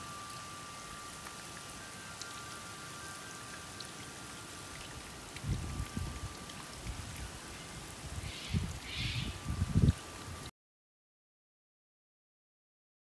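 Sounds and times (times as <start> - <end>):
water spray pattering on leaves: 0.0 - 10.5.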